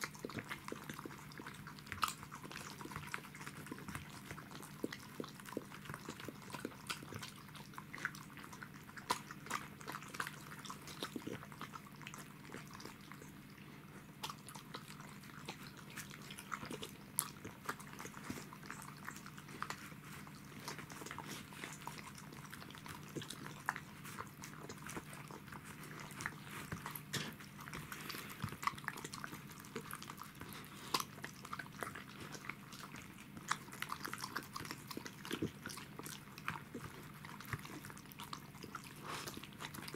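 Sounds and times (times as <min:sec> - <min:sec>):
chewing clicks: 0:00.0 - 0:39.9
dog lapping and licking: 0:00.0 - 0:39.9
faint low hum: 0:00.0 - 0:39.9.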